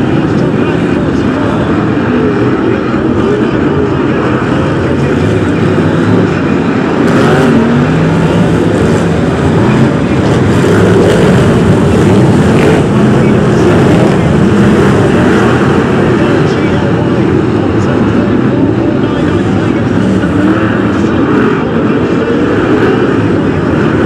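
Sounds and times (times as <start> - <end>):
racing car engines blaring: 0.0 - 24.0.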